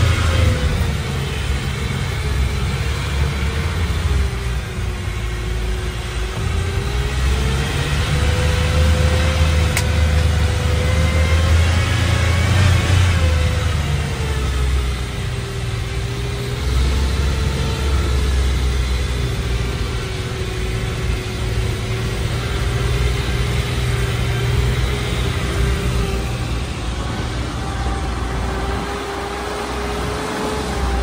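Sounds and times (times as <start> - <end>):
car engine running at low speed: 0.0 - 31.0
steady whining tone: 0.0 - 31.0.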